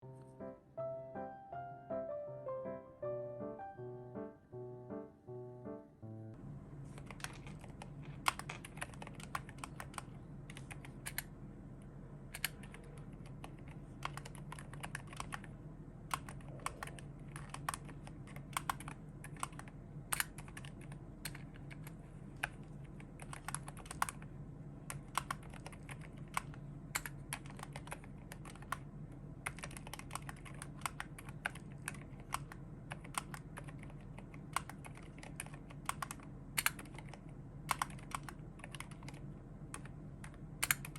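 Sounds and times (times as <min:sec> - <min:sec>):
low steady hum: 0:00.0 - 0:40.9
mechanical keyboard typing: 0:07.0 - 0:11.3, 0:12.3 - 0:40.9.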